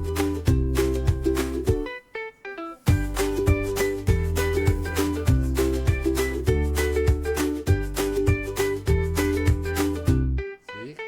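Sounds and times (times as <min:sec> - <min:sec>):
upbeat ukulele music with beat: 0:00.0 - 0:02.2, 0:02.8 - 0:11.0.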